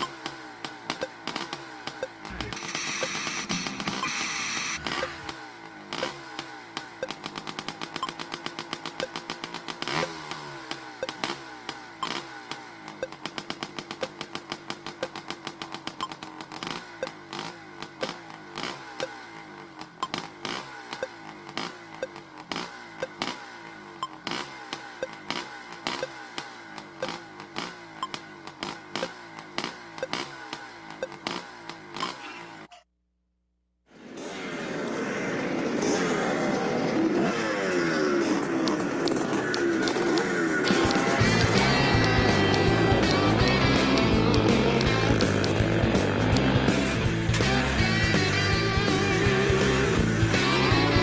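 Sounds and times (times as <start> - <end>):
motorcycle engines revving: 0.0 - 32.7, 33.9 - 51.0.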